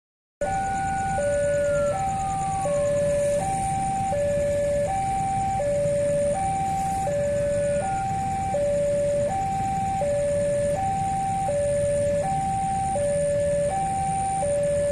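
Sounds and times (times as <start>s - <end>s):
ambulance two-tone siren: 0.4s - 14.9s.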